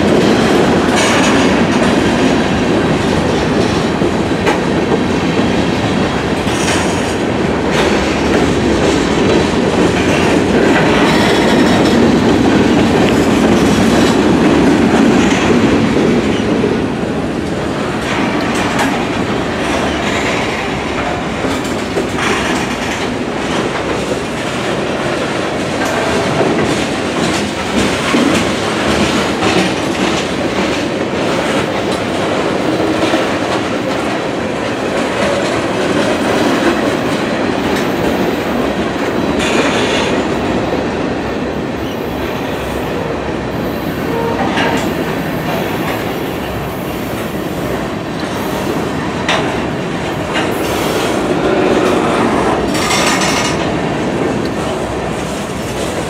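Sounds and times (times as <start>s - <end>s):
freight train wheels rumbling: 0.0s - 56.0s
train wheel clacks: 0.0s - 56.0s.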